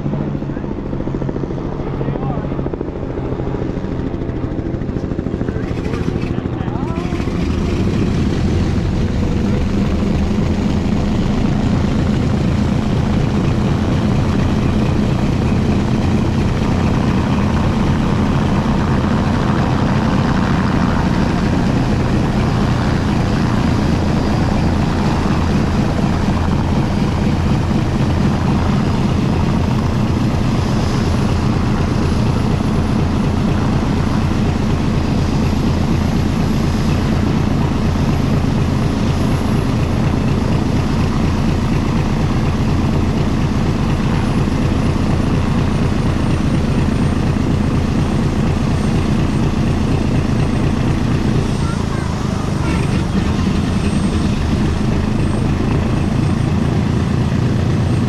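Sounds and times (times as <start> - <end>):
aircraft engines droning: 0.0 - 58.0.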